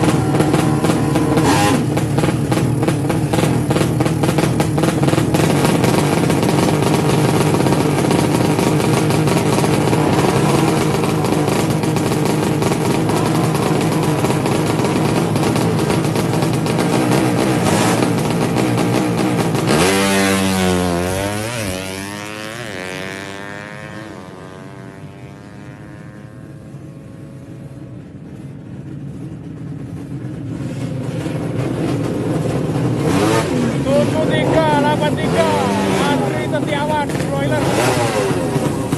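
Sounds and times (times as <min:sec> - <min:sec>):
motorcycle engine revving: 0:00.0 - 0:38.9
motorcycle pulling away: 0:00.0 - 0:38.9.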